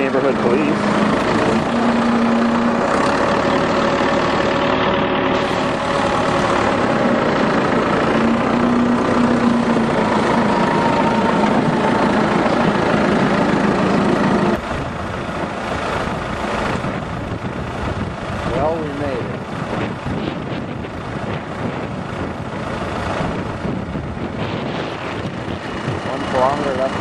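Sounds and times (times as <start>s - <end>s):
rushing noise: 0.0s - 27.0s
tractor engine running: 0.0s - 27.0s.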